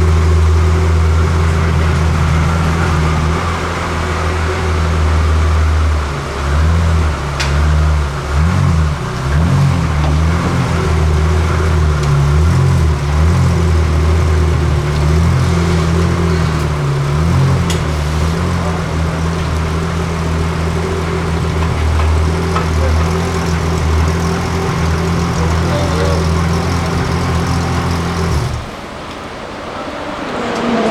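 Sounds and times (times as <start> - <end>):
car engine idling with throttle blips: 0.0 - 30.9.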